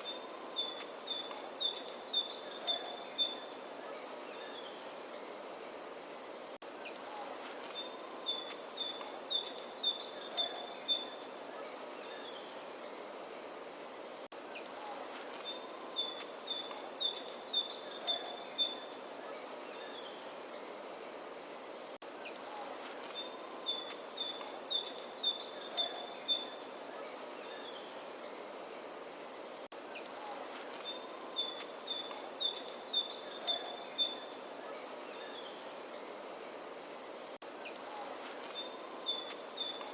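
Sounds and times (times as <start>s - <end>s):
faint outdoor hiss: 0.0s - 39.9s
songbird singing: 0.0s - 39.9s.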